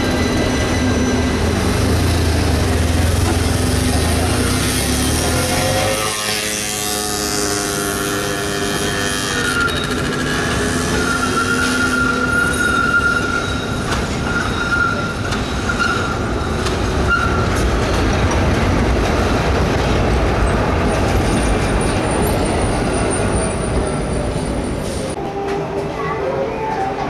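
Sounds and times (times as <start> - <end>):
tram rolling rumble: 0.0 - 27.0
tram wheels squealing: 0.0 - 27.0.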